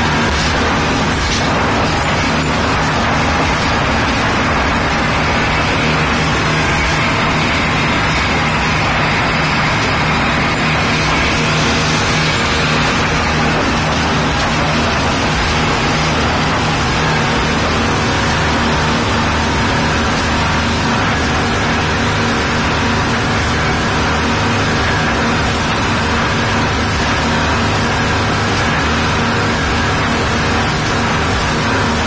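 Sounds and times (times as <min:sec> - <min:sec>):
rushing wind: 0:00.0 - 0:32.0
speedboat engine drone: 0:00.0 - 0:32.0
water spray from hull: 0:00.0 - 0:32.0.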